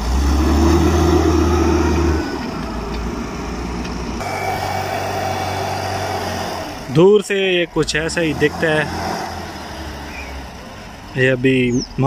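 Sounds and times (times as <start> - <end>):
wheel loader diesel engine: 0.0 - 12.0.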